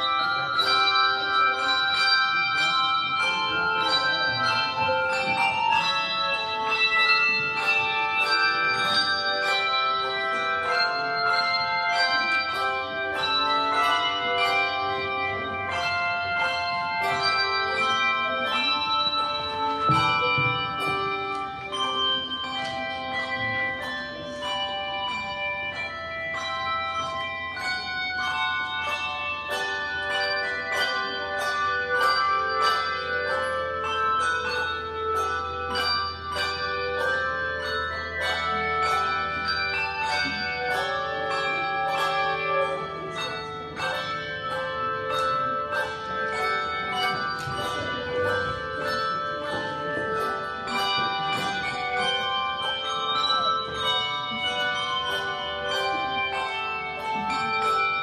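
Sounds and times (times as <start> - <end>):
handbell choir playing: 0.0 - 58.0.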